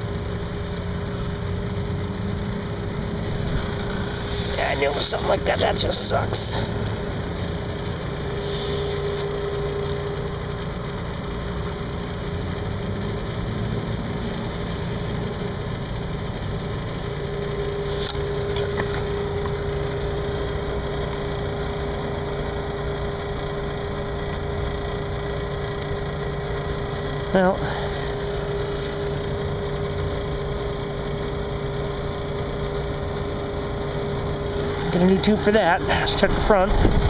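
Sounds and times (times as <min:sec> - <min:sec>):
small motor humming: 0:00.0 - 0:37.0.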